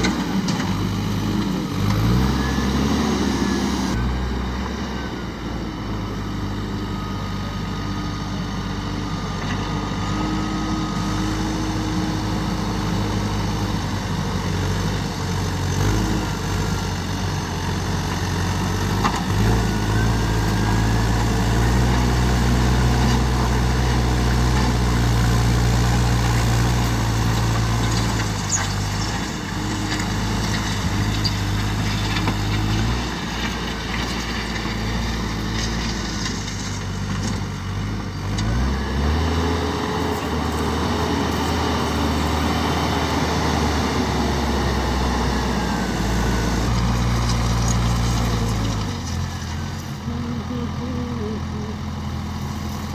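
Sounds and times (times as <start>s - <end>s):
backhoe diesel engine revving: 0.0s - 52.9s.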